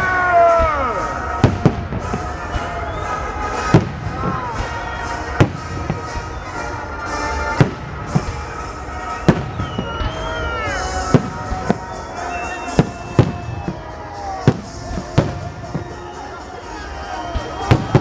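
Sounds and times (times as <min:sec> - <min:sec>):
music playing: 0:00.0 - 0:18.0.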